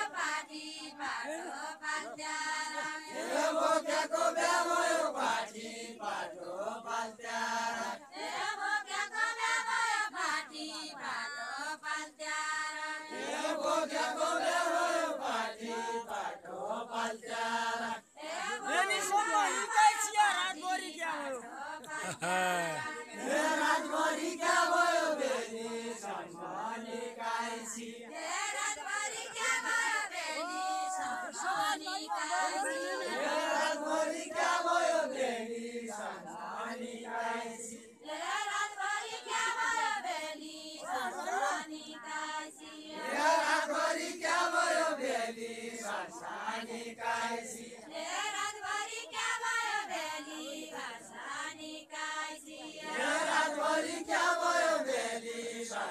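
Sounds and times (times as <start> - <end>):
group singing unaccompanied: 0.0 - 55.9.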